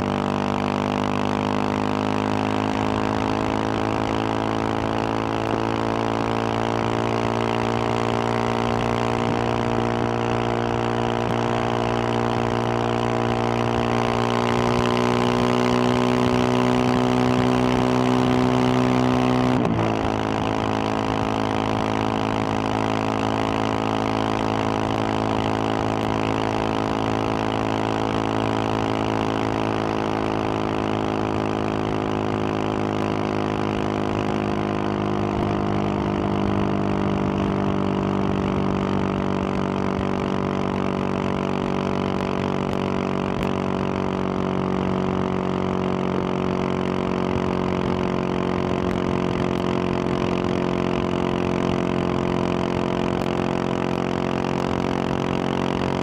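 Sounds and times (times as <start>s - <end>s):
motorcycle engine at speed: 0.0s - 56.0s
wind and road noise: 0.0s - 56.0s.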